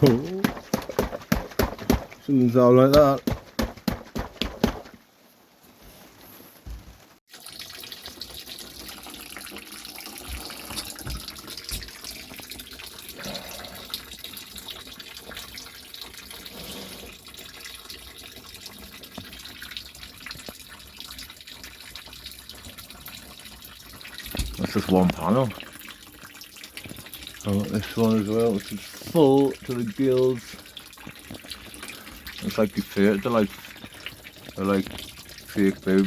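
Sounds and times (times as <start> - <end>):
water splashing and trickling: 0.0 - 5.2, 6.0 - 36.0.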